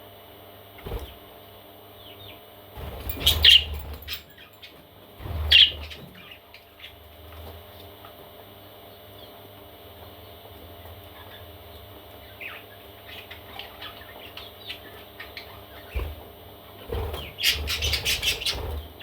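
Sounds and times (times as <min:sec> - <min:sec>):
parrot chicks chirping: 0:02.0 - 0:07.1, 0:08.9 - 0:19.0.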